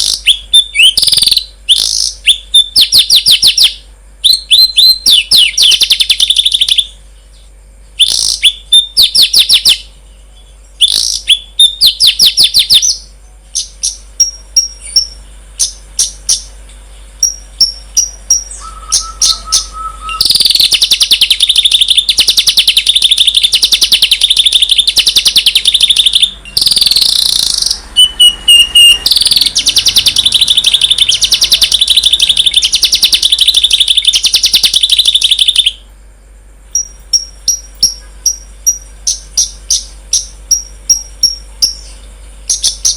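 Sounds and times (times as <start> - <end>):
songbird chattering trills: 0.0 - 35.8, 36.7 - 42.9
fast buzzy bird trill: 0.0 - 42.9.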